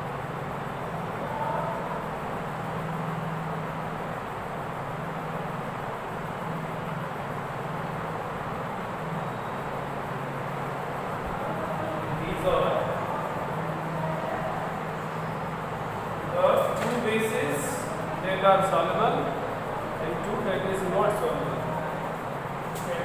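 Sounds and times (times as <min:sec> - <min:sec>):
constant low hum: 0:00.0 - 0:23.0.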